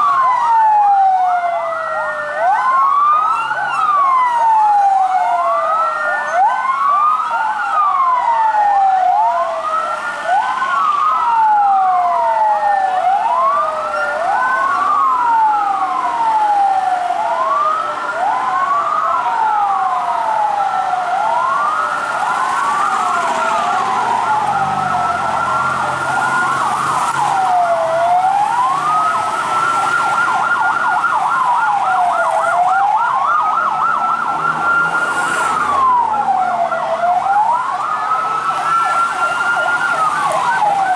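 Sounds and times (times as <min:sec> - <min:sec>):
fire truck sirens wailing: 0:00.0 - 0:40.9.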